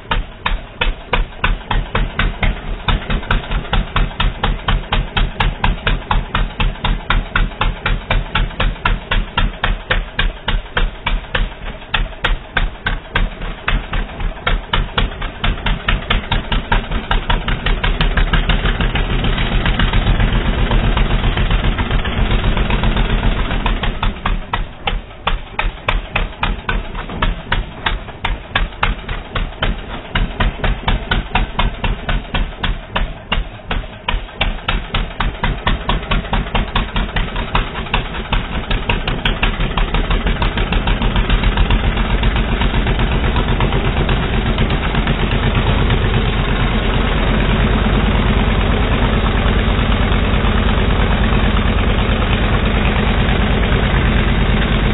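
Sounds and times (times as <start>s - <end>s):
atv engine putter: 0.0s - 54.9s.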